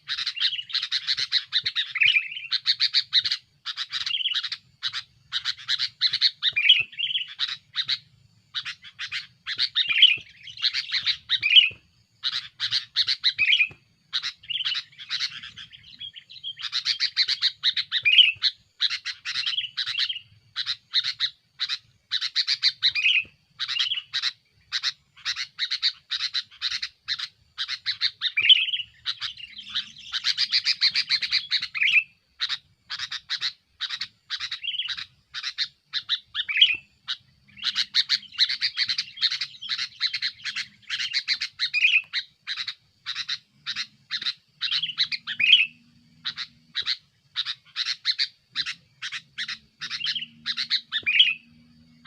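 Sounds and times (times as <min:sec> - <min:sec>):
bird chattering and warbling: 0:00.0 - 0:52.0.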